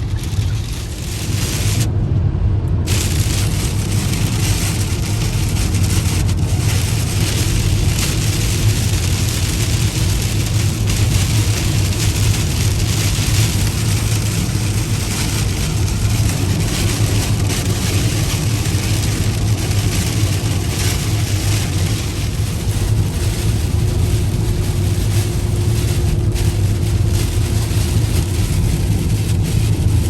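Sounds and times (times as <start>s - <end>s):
rain and tyre spray hiss: 0.0s - 1.9s, 2.9s - 30.0s
car engine and road drone: 0.0s - 30.0s.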